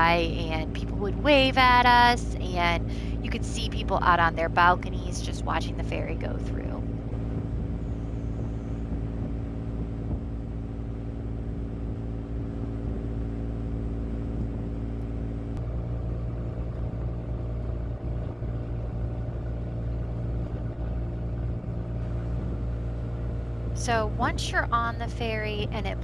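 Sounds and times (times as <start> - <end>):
ship engines droning: 0.0 - 26.0.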